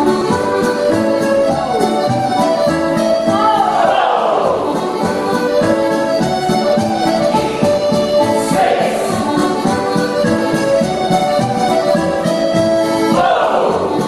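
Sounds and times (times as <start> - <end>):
accordion-led dance music: 0.0 - 14.0.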